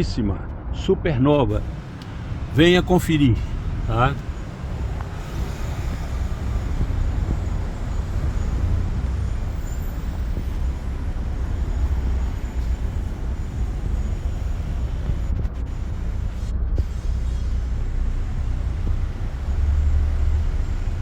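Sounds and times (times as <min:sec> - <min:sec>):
vehicle noise rumble: 0:00.0 - 0:21.0.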